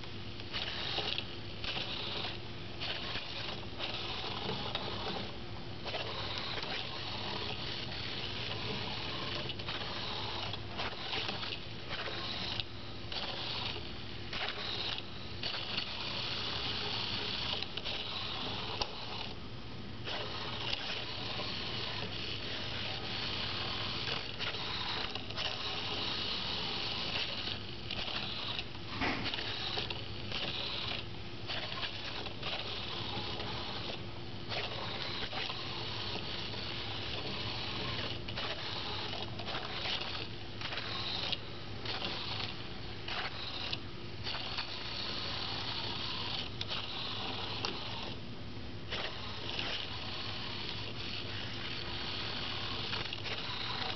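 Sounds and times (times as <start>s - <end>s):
small gearmotors whirring: 0.0s - 19.4s, 20.0s - 48.2s, 48.8s - 53.9s.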